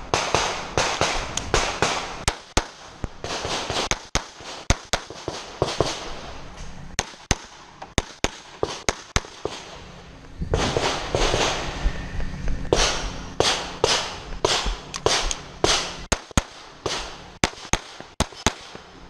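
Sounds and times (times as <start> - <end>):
pistol shots echoing: 0.0 - 6.3, 7.0 - 9.8, 12.7 - 19.0.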